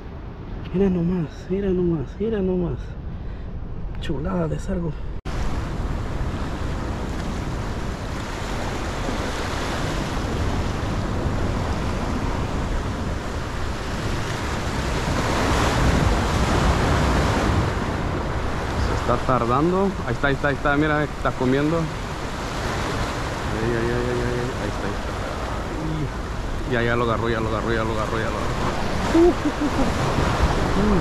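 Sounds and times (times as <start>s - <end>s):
wind buffeting microphone: 5.2s - 31.0s
ocean surf breaking on rocks: 5.3s - 31.0s.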